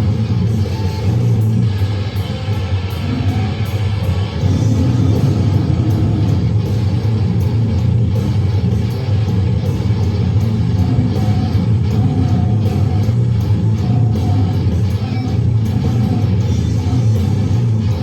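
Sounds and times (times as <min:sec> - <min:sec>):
distorted heavy metal music: 0:00.0 - 0:18.0.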